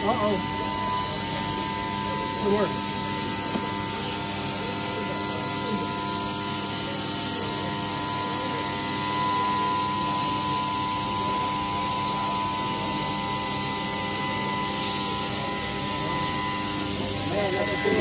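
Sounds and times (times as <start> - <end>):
steady multi-tone hum: 0.0 - 18.0.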